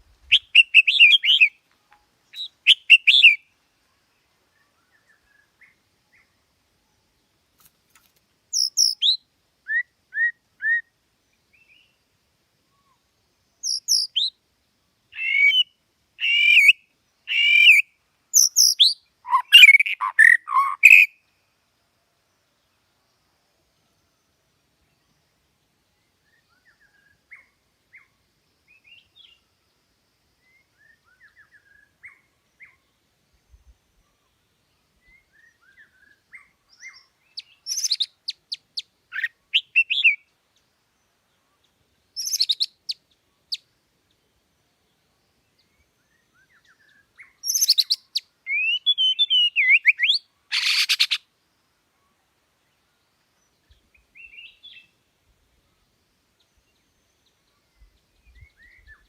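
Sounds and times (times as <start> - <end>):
songbird chirping and trilling: 0.0 - 59.0.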